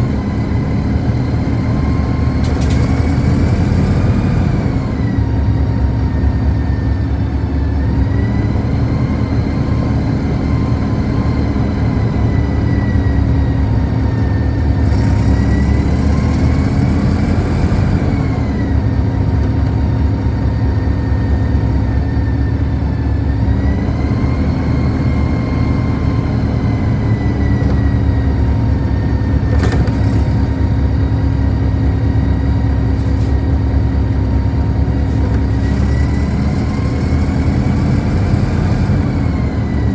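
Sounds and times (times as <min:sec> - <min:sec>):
bus motor whine: 0:00.0 - 0:39.9
bus rumble: 0:00.0 - 0:39.9.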